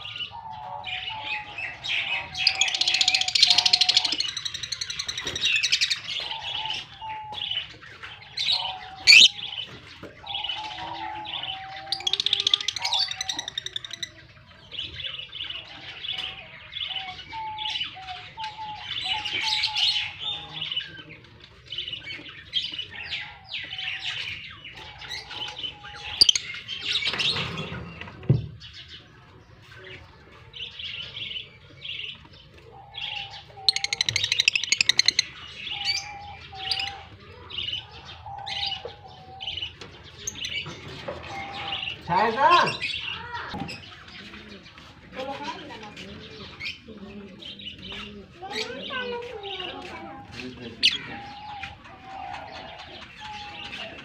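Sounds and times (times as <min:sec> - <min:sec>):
lovebirds chirping: 0:00.0 - 0:54.0.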